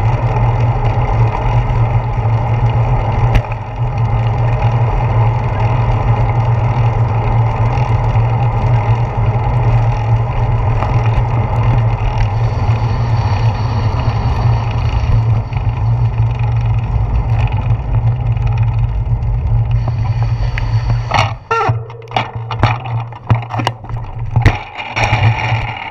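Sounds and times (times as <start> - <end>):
tyres rumbling on asphalt: 0.0 - 25.9.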